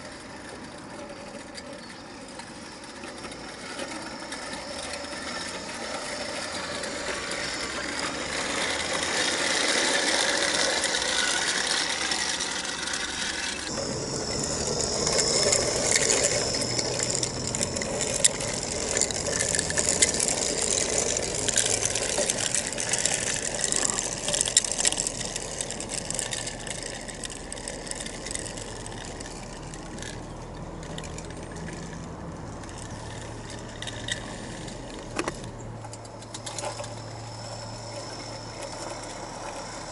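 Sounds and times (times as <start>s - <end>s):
model locomotive motor whirring: 0.0s - 39.9s
wagon wheels clicking on rails: 0.0s - 39.9s.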